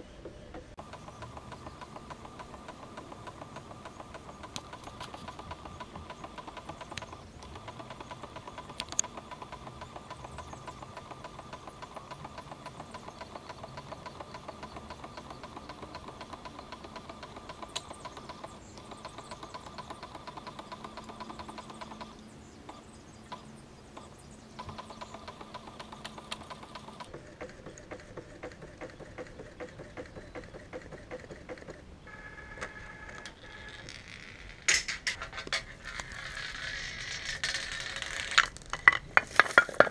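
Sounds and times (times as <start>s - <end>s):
photo printer whirring: 0.0s - 34.0s.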